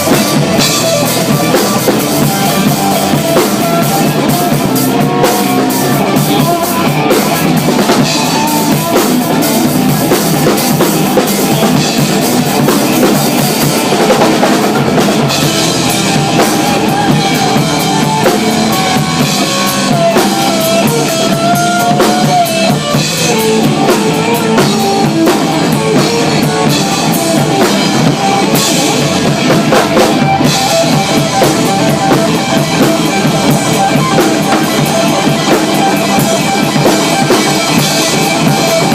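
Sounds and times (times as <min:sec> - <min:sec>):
drum kit steady beat: 0:00.0 - 0:38.9
live rock band playing: 0:00.0 - 0:38.9
wavering lead melody: 0:00.0 - 0:38.9.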